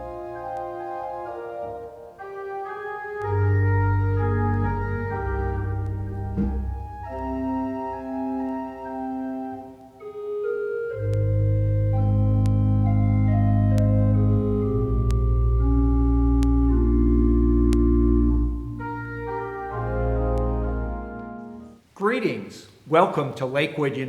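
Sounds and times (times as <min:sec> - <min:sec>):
deep bass organ notes: 0:00.0 - 0:02.0, 0:03.1 - 0:21.8
organ chords: 0:00.0 - 0:21.8.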